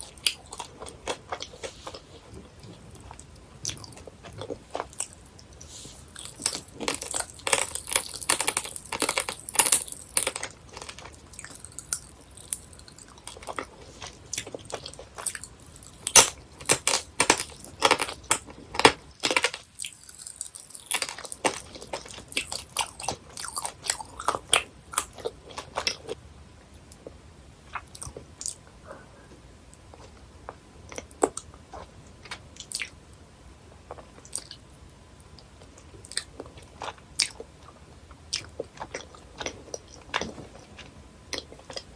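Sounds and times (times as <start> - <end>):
chewing jelly candies: 0.0 - 26.2, 27.7 - 33.0, 33.9 - 34.7, 35.4 - 41.9.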